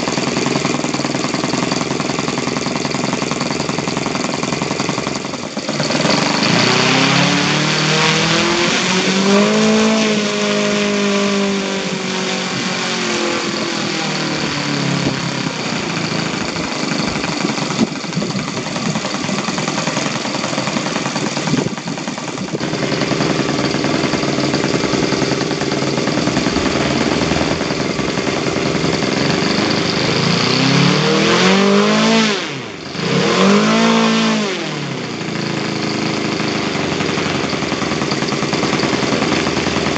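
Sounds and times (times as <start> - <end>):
model engine revving: 0.0 - 39.9.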